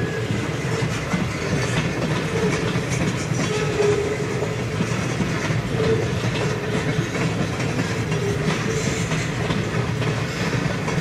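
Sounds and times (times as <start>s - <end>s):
freight train rumbling past: 0.0s - 11.0s
wheels clicking over rail joints: 0.0s - 11.0s.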